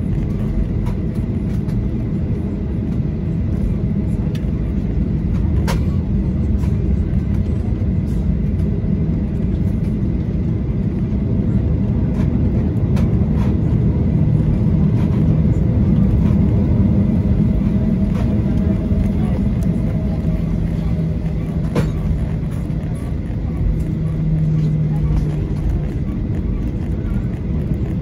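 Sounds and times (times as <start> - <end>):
jet engines low rumble: 0.0 - 28.0.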